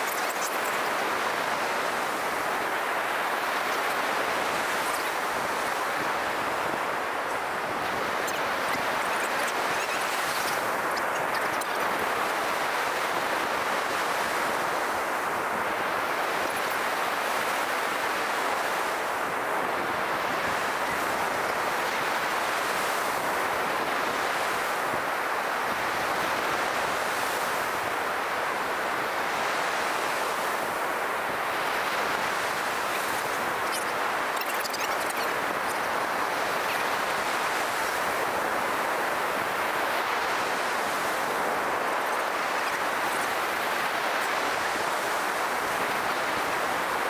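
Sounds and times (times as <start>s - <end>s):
ocean surf breaking: 0.0s - 47.0s.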